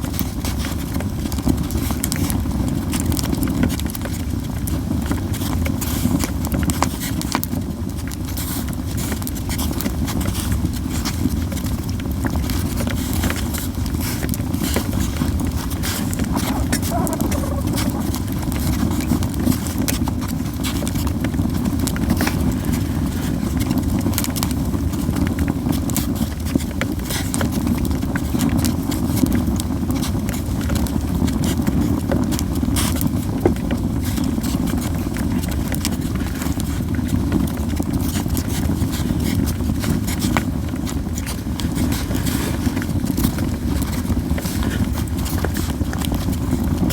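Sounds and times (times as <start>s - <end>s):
low fire rumble: 0.0s - 46.9s
firewood crackling and popping: 0.1s - 46.9s.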